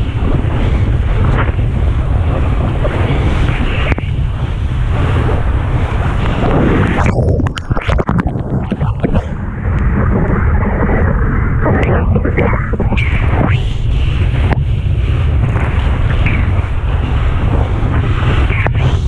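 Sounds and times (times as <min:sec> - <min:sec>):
rushing water: 0:00.0 - 0:19.0
water splashes: 0:00.0 - 0:19.0
wind buffeting microphone: 0:00.0 - 0:19.0.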